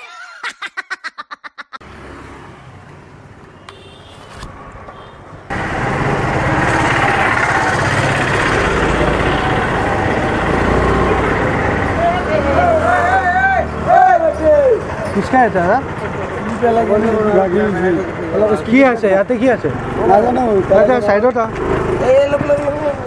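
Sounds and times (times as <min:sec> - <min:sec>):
street traffic passing: 0:01.1 - 0:23.0.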